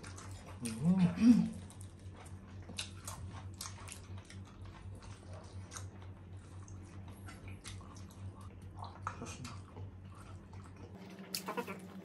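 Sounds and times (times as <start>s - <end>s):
people chewing food: 0.0s - 12.0s
low hum: 0.1s - 12.0s.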